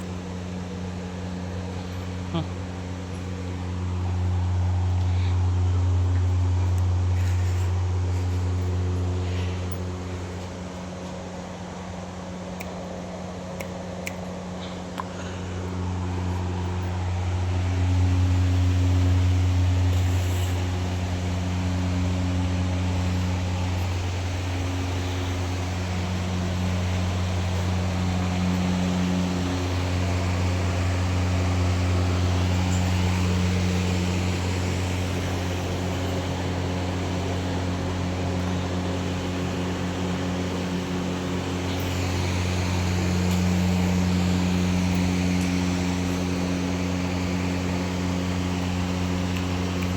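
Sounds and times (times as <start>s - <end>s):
engine running with low hum: 0.0s - 49.9s.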